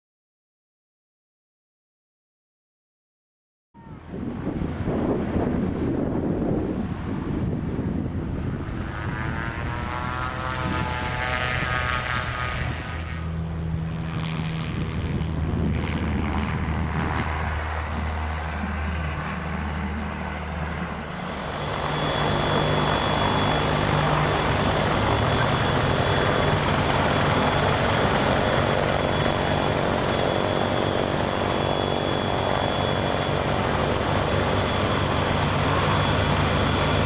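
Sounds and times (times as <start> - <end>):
propeller aircraft engine droning: 3.8 - 37.0.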